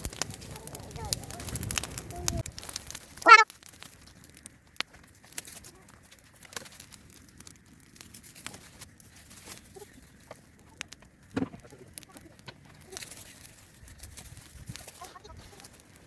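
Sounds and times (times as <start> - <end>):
sharp crackles and clicks: 0.0 - 16.0.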